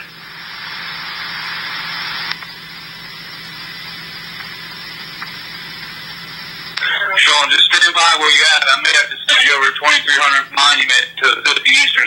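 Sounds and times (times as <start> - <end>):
faint steady hum: 0.0 - 12.0
radio static hiss: 0.0 - 12.0.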